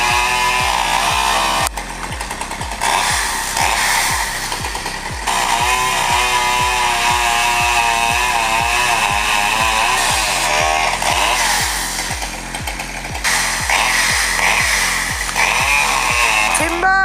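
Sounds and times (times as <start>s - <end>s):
chainsaw engine running: 0.0s - 17.0s
music with bass beat: 0.0s - 17.0s.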